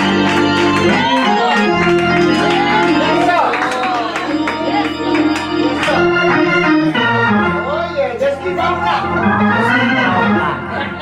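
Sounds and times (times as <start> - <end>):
organ chords: 0.0 - 11.0.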